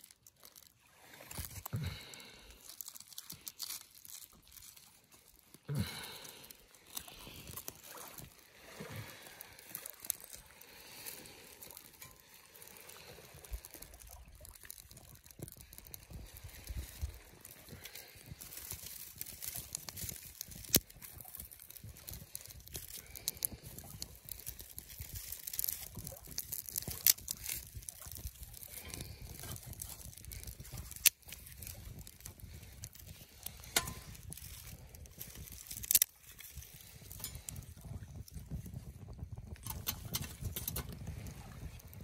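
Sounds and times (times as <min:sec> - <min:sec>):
small wood fire crackling: 0:00.0 - 0:42.0.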